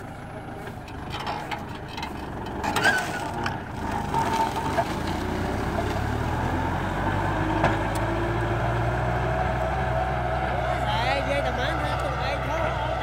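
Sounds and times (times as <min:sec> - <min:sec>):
diesel tractor engine droning: 0:00.0 - 0:13.0.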